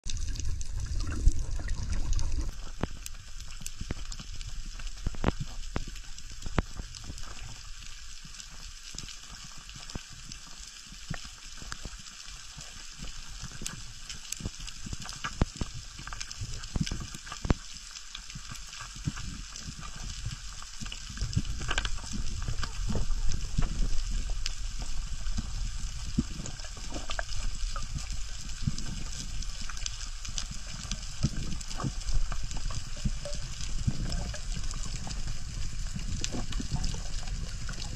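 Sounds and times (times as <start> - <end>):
rush of moving water: 0.1 - 37.9
underwater crackling hiss: 0.1 - 37.9.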